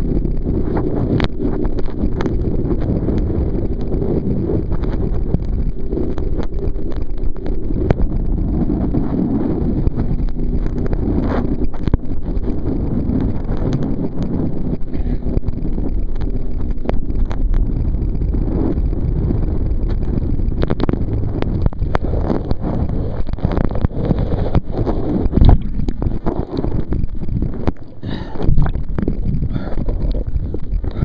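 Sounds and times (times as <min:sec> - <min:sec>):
sharp knocks and crackles: 0:00.0 - 0:31.0
wind buffeting microphone: 0:00.0 - 0:31.0.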